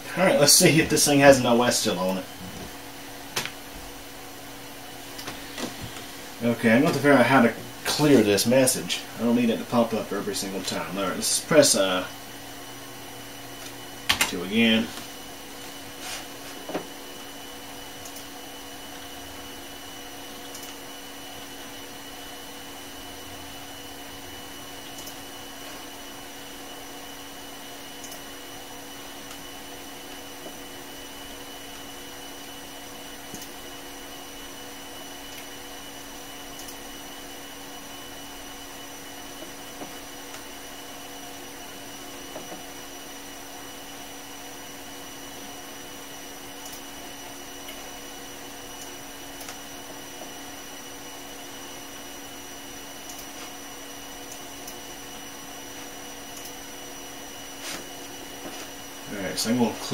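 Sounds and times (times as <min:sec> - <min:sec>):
computer fans whirring: 0:00.0 - 0:59.9.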